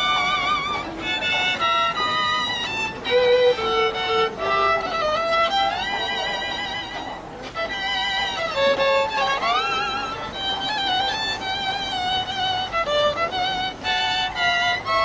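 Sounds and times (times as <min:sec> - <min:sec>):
violin slow melody with vibrato: 0:00.0 - 0:15.0.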